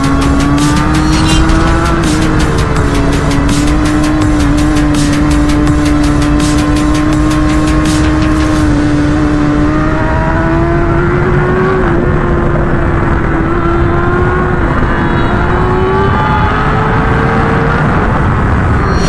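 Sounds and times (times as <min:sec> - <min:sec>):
motorcycle engine running: 0:00.0 - 0:17.4
wind and road noise: 0:00.0 - 0:19.0.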